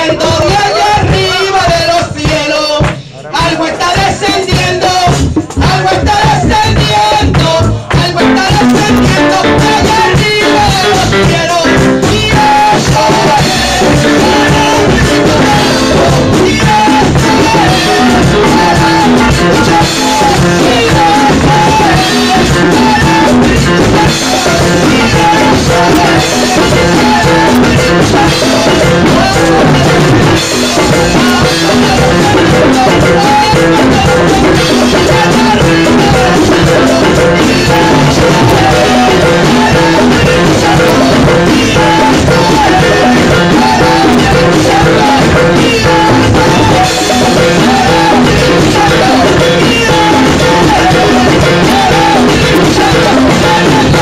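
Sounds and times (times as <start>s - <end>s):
band with drum kit: 0.0s - 54.0s
people singing along: 0.0s - 54.0s
woman singing into microphone: 0.0s - 54.0s.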